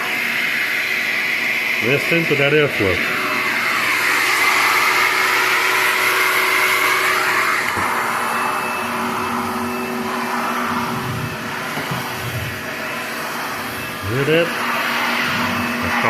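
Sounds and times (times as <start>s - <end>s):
vacuum cleaner airflow rushing: 0.0s - 16.0s.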